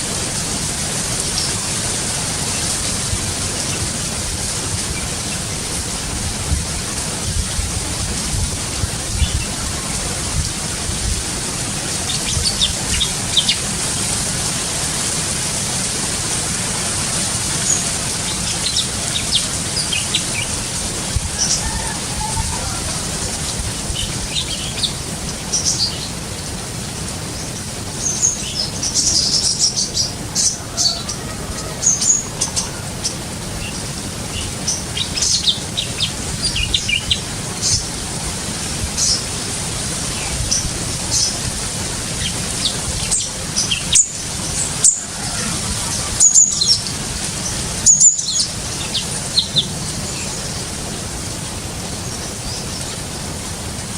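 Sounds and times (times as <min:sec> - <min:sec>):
steady hiss: 0:00.0 - 0:53.9
birds chirping: 0:01.1 - 0:15.8, 0:16.6 - 0:53.9.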